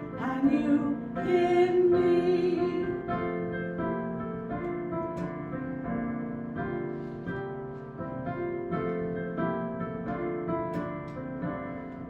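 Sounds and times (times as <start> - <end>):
hymn played on piano: 0.0 - 12.0.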